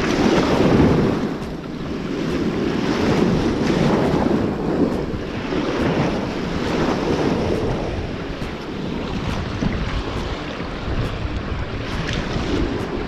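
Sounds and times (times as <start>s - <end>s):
ocean surf washing onto beach: 0.0s - 13.0s
wind buffeting microphone: 0.0s - 13.0s.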